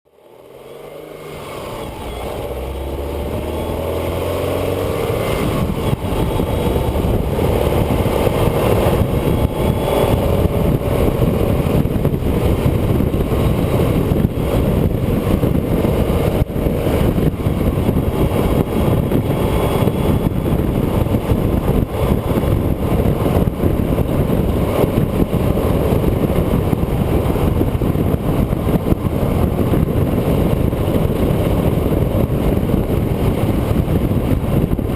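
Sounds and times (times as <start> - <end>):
vehicle engine accelerating: 0.1 - 34.9
wind and road noise: 0.1 - 34.9.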